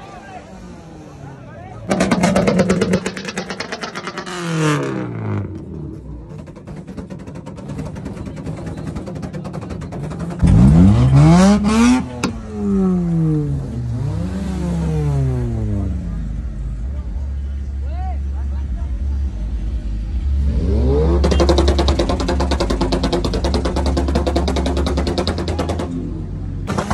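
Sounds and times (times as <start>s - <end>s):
car engine revving: 0.3s - 26.9s
exhaust crack: 1.8s - 26.9s.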